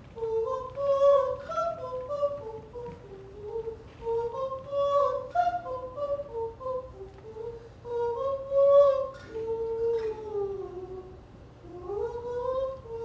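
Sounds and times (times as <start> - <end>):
person humming a slow tune: 0.1 - 13.0.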